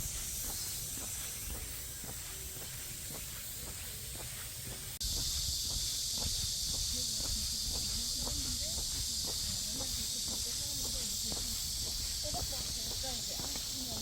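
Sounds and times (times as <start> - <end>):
cicadas droning: 0.0 - 14.0
footsteps on a path: 0.0 - 14.0.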